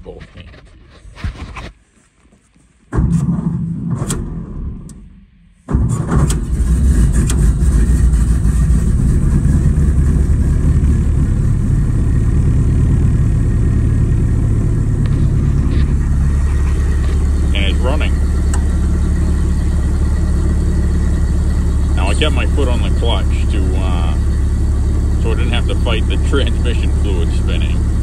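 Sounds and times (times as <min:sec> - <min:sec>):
car engine starting and running: 0:02.9 - 0:28.0.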